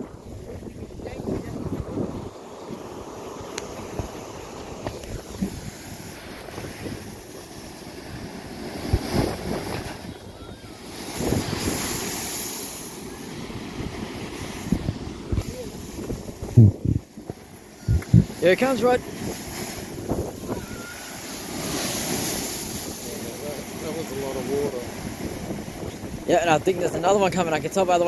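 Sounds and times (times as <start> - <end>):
surf rushing through blowhole: 0.0 - 28.0
wind buffeting microphone: 0.0 - 28.0.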